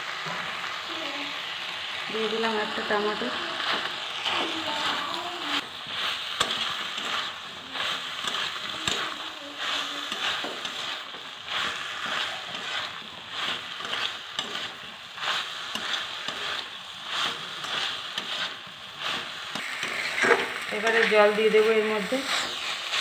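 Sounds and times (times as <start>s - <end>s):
vegetables sizzling in a wok: 0.0s - 23.0s
spatula stirring: 2.2s - 23.0s.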